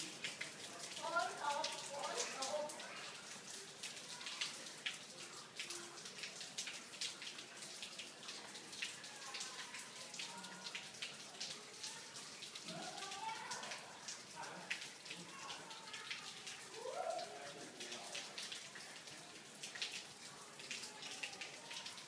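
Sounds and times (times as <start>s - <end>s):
water drips and taps: 0.0s - 22.0s
water running from downspout: 0.0s - 22.0s.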